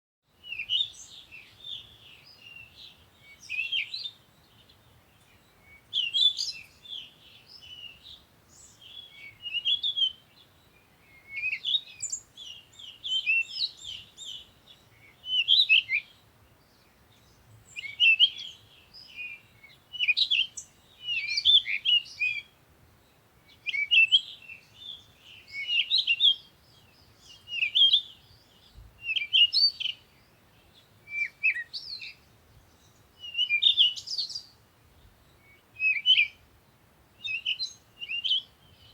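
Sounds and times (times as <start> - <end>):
songbirds chirping and singing: 0.3 - 38.9.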